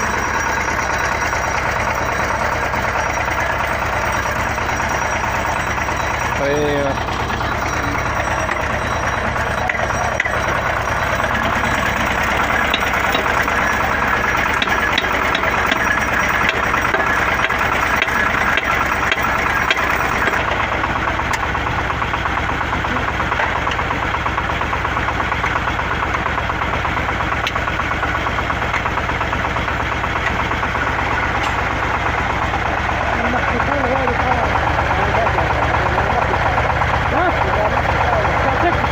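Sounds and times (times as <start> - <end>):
drilling rig engine droning: 0.0 - 38.9.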